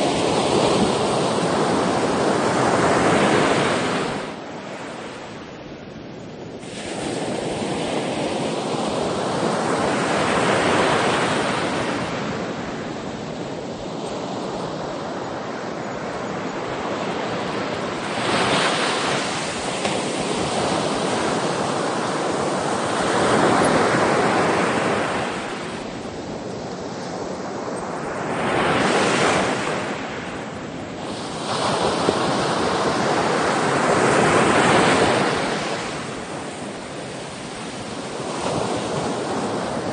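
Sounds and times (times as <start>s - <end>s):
ocean waves breaking: 0.0s - 5.5s, 6.5s - 39.9s
wind buffeting microphone: 0.0s - 39.9s.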